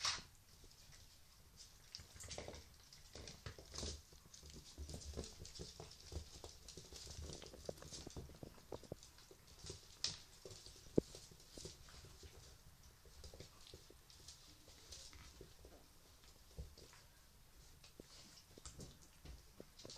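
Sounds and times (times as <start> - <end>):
puppies scuffling on blanket: 0.0 - 19.9.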